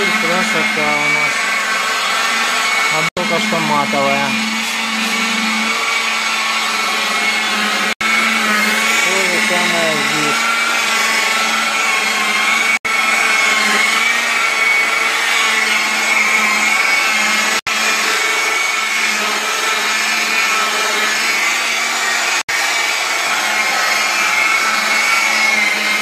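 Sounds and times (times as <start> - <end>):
electric polisher hum and whine: 0.0 - 26.0.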